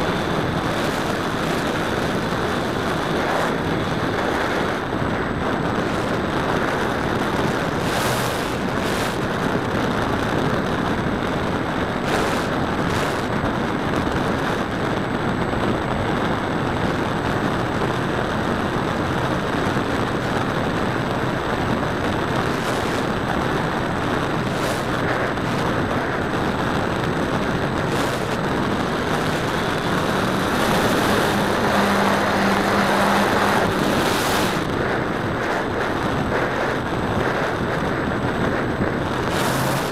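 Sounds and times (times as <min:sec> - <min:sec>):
low hum: 0:00.0 - 0:39.9
propeller and wind rush: 0:00.0 - 0:39.9
short crackles: 0:00.0 - 0:39.9.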